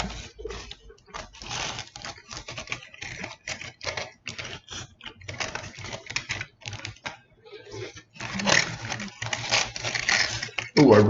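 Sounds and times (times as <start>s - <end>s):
foil wrapper crinkling: 0.0s - 10.9s.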